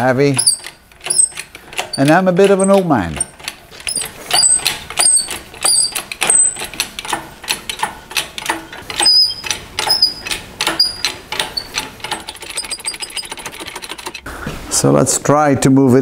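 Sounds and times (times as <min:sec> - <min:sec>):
metallic clicks and squeaks: 0:00.0 - 0:14.2.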